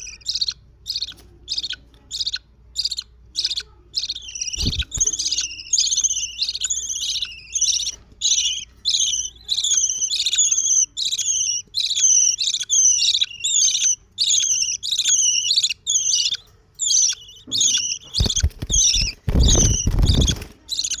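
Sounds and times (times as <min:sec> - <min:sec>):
budgerigar chicks rasping calls: 0:00.0 - 0:21.0.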